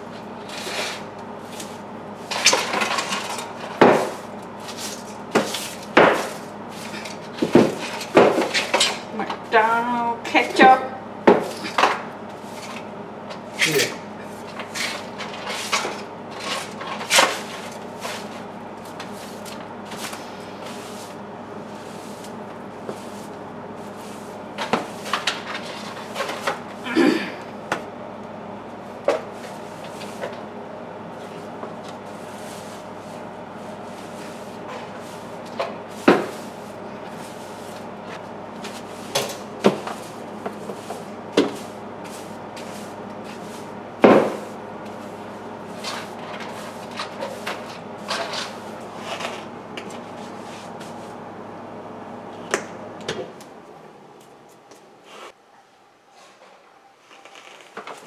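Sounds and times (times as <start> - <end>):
low machine hum: 0.0 - 57.5.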